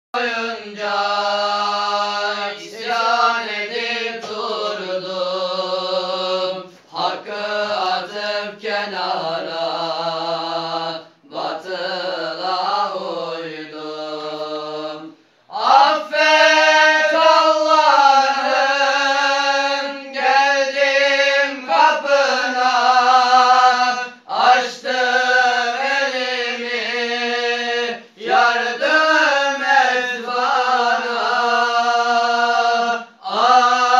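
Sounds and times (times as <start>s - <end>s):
young men chanting: 0.2s - 33.9s.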